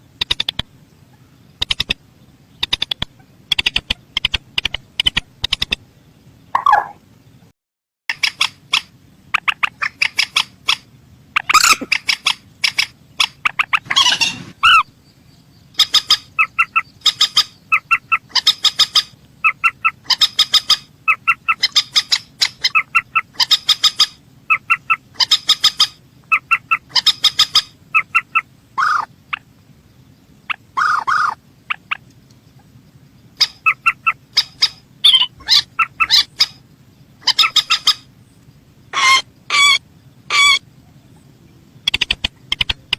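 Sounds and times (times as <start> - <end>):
rail bird piping calls: 0.0 - 7.0, 8.1 - 42.9.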